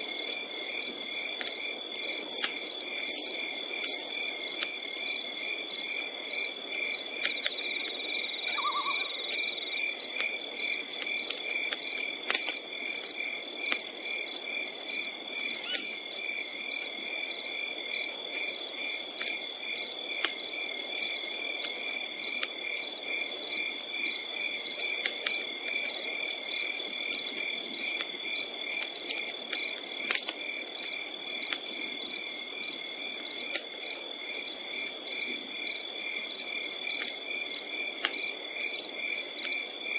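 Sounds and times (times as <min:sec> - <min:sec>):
campfire popping and crackling: 0:00.0 - 0:39.9
night insects chirping: 0:00.0 - 0:39.9.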